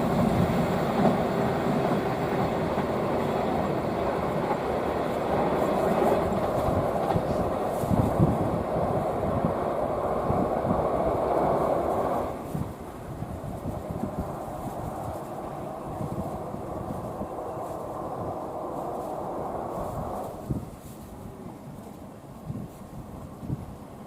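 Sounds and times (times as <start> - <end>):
train clattering on rails: 0.0 - 23.5.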